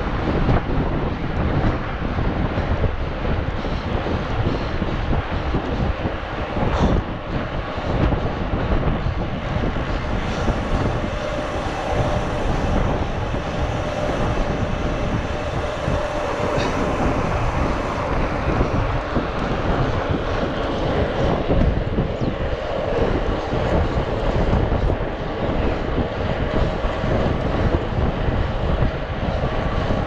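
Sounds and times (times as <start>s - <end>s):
bike tyres rumbling on asphalt: 0.0s - 30.0s
wind buffeting microphone: 0.0s - 30.0s.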